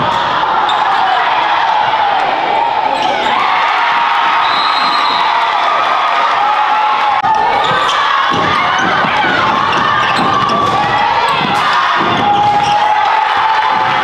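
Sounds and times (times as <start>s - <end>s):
crowd noise and voices: 0.0s - 14.0s.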